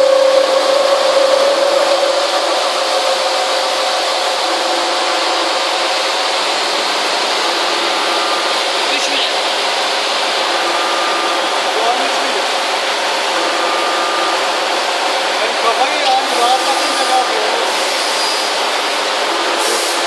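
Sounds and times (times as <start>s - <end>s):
machine hum: 0.0s - 20.0s
milling machine cutting metal: 0.0s - 20.0s.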